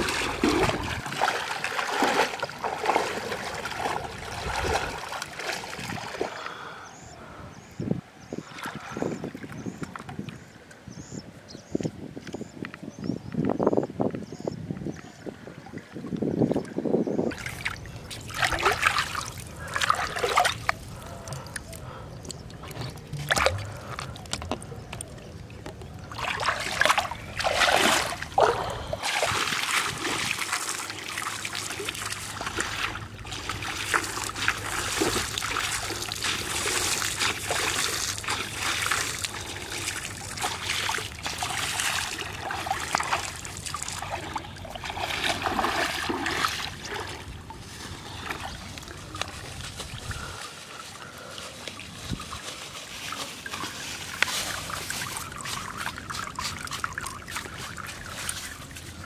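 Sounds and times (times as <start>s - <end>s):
water splashing from wading: 0.0s - 6.7s, 17.3s - 59.0s.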